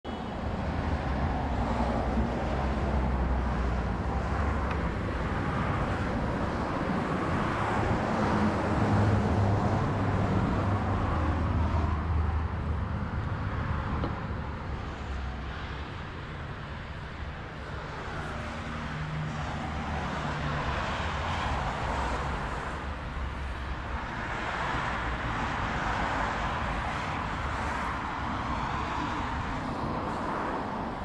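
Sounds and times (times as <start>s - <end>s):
road traffic engine hum: 0.0s - 31.0s.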